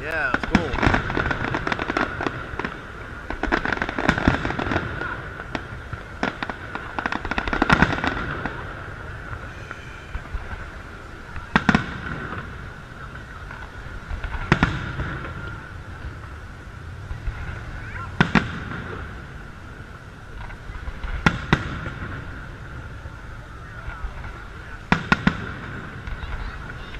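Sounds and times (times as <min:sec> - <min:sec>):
fireworks bursting: 0:00.0 - 0:26.9.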